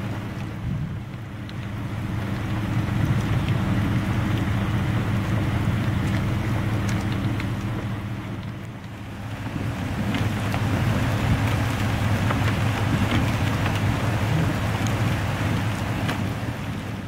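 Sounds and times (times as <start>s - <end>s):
low hum: 0.0s - 15.8s
steady rain: 0.0s - 17.0s.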